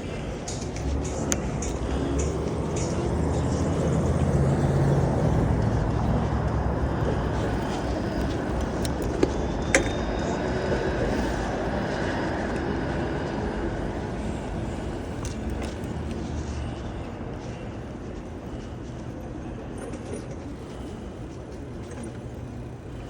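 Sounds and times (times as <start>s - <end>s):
road rumble: 0.0s - 23.0s.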